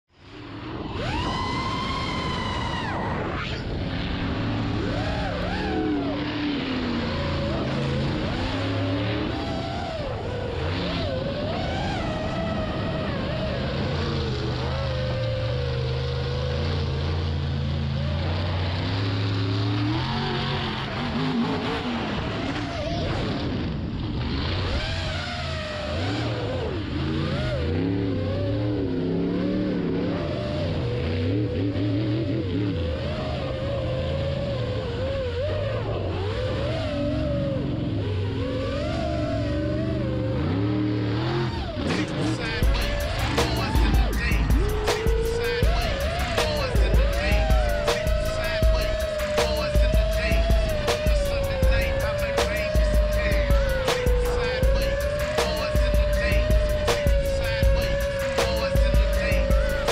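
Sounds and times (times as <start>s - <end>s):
drone motors whining: 0.1s - 59.9s
truck engine rumbling: 0.1s - 59.9s.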